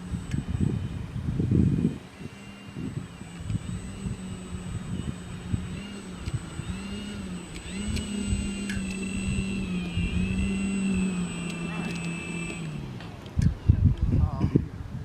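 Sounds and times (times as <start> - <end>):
model plane motor whine: 0.0 - 14.1
wind buffeting microphone: 0.0 - 15.0.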